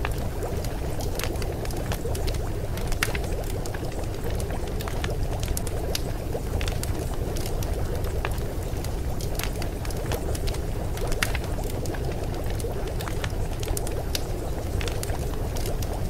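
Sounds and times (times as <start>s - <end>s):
running water bubbling: 0.0s - 16.0s
small clicks and pops: 0.0s - 16.0s.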